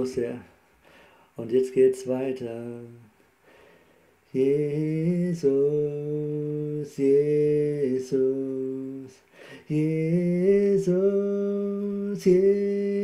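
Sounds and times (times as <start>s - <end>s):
man singing worship chorus: 1.4s - 3.2s, 4.2s - 13.0s.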